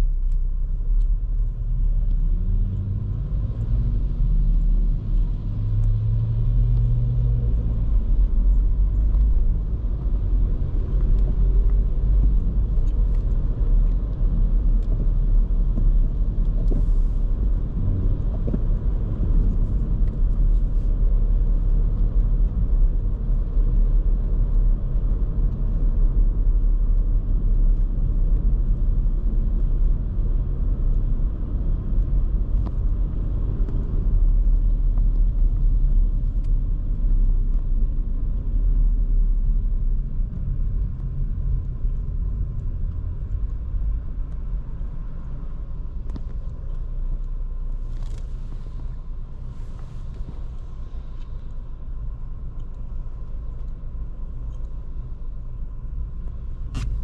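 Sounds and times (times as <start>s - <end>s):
car engine rumble: 0.0s - 57.0s
tyres on road: 0.0s - 57.0s.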